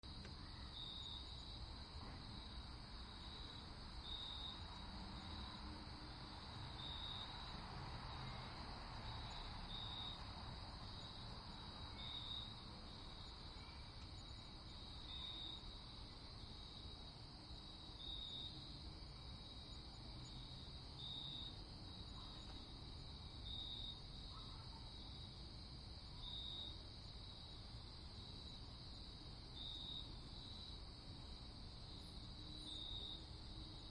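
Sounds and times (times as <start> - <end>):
faint insect chirping: 0.0 - 33.9.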